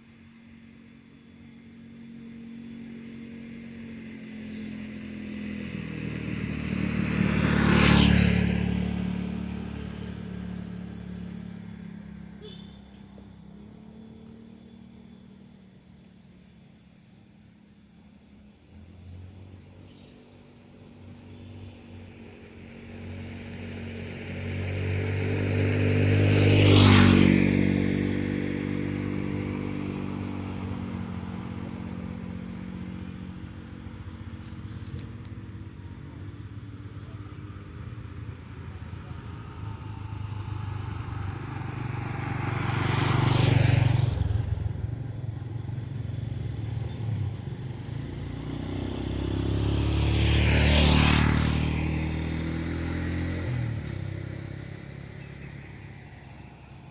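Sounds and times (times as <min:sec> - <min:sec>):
vehicles driving past: 0:00.0 - 0:56.9.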